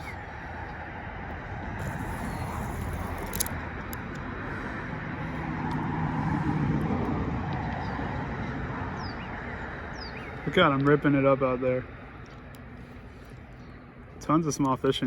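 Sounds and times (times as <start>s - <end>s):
vehicle passing: 0.0s - 14.1s
road traffic rumble: 0.0s - 15.0s.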